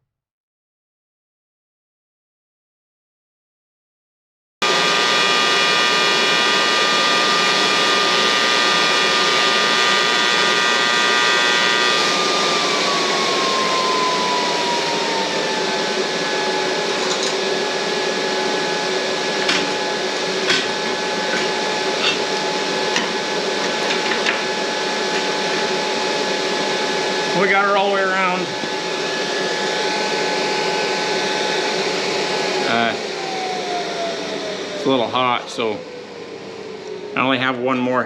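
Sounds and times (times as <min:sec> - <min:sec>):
humming tone: 0:04.6 - 0:38.0.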